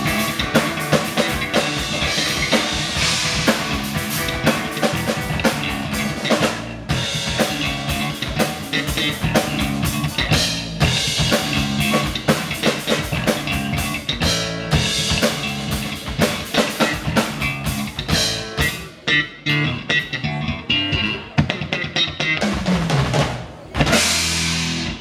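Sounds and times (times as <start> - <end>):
busy drumming: 0.0 - 19.0, 20.9 - 25.0
live band playing instrumental: 0.0 - 25.0.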